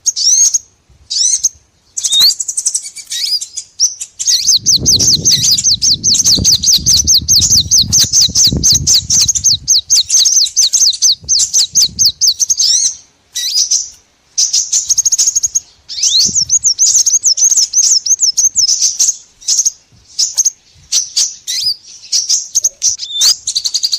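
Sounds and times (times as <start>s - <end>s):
songbird sweeping chirps: 0.0s - 23.9s.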